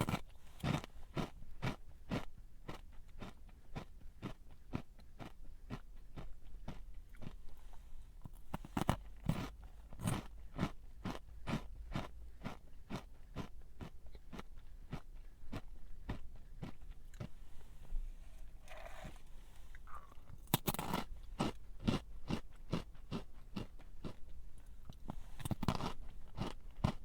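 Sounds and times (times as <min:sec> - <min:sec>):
crunchy snack being chewed: 0:00.0 - 0:17.7, 0:18.3 - 0:27.0.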